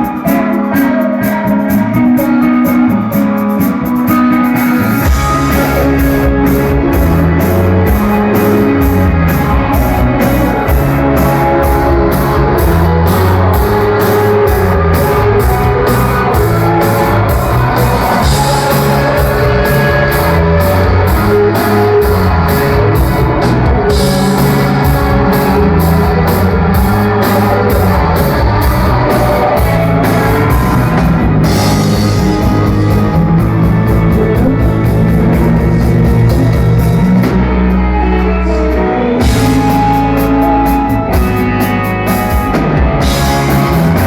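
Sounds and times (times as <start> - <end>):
live rock band playing: 0.0 - 44.0
heavy low bass note: 4.8 - 44.0.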